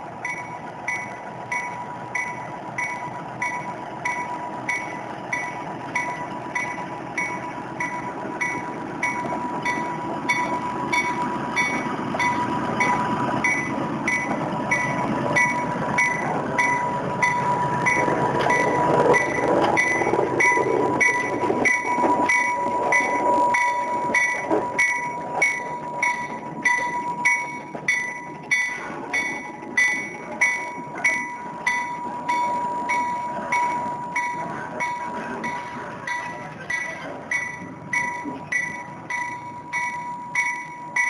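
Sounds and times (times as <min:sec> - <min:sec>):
locomotive running on track: 0:00.0 - 0:41.0
rhythmic ringing: 0:00.2 - 0:41.0.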